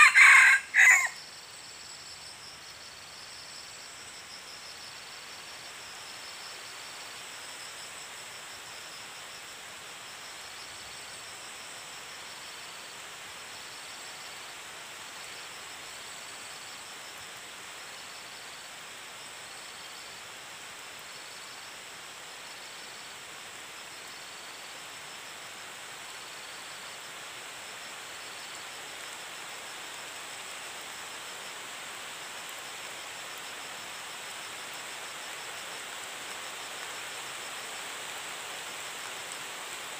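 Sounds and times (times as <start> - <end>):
insect chirping: 0.0 - 39.9
insects droning: 0.0 - 39.9
steady hiss: 0.6 - 39.9.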